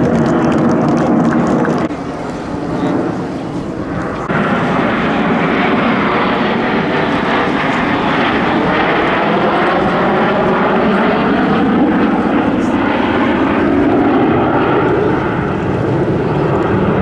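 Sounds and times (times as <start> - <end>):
jet aircraft rushing: 0.0 - 17.0.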